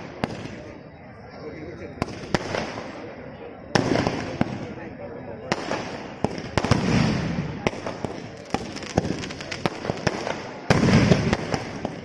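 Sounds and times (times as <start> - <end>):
fireworks cracks and bangs: 0.0 - 0.8, 1.9 - 12.0.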